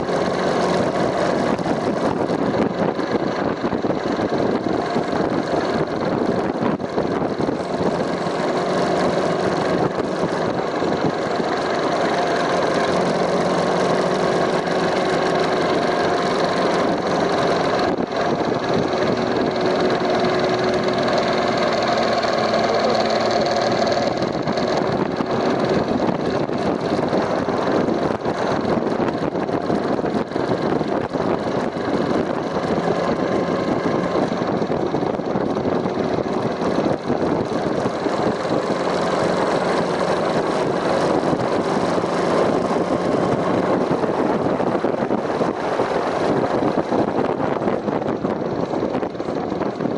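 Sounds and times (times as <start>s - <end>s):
engine cylinder head noise: 0.0s - 49.6s
motorcycle engine running: 0.0s - 49.9s.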